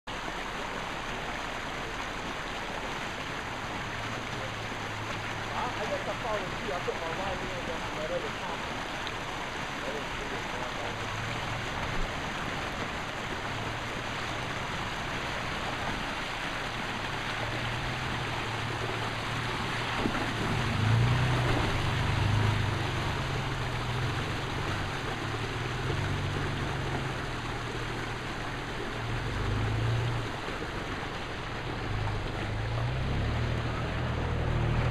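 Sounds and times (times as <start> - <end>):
creek water rushing: 0.1 - 34.9
truck engine at low speed: 0.1 - 34.9.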